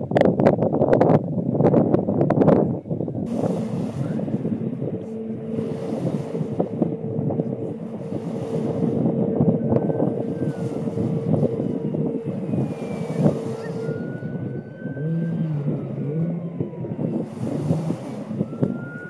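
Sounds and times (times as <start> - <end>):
wind buffeting microphone: 0.0 - 19.0
steady tone: 1.8 - 19.0
motor running: 3.3 - 19.0.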